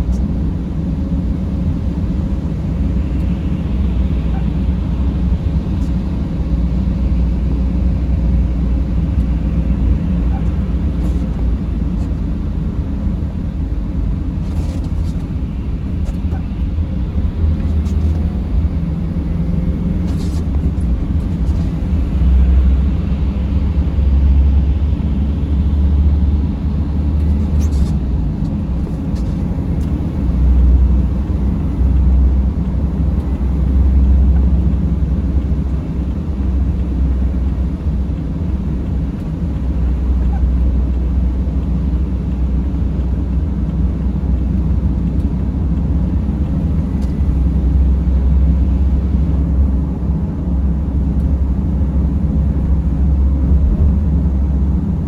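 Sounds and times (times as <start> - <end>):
van engine and tyres rumbling: 0.0 - 55.0.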